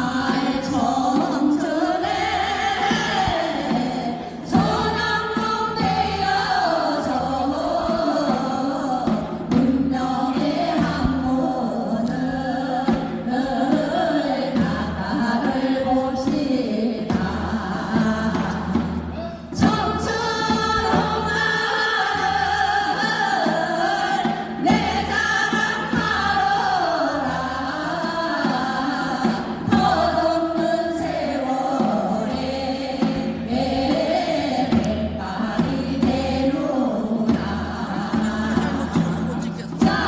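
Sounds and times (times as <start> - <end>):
group singing in unison: 0.0 - 40.0
music accompaniment: 0.0 - 40.0.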